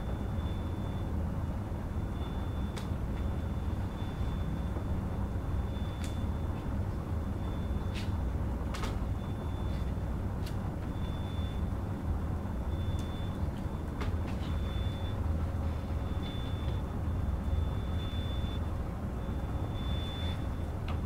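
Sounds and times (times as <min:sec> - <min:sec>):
room noise rumble: 0:00.0 - 0:21.0.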